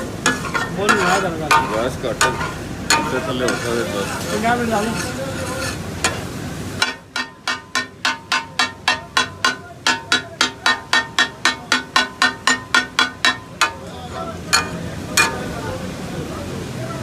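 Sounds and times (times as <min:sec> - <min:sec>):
metal spatulas clanking on griddle: 0:00.0 - 0:15.6.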